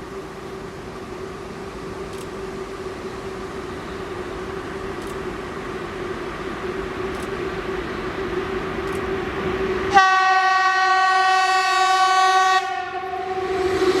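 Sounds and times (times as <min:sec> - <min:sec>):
electric train approaching: 0:00.0 - 0:14.0.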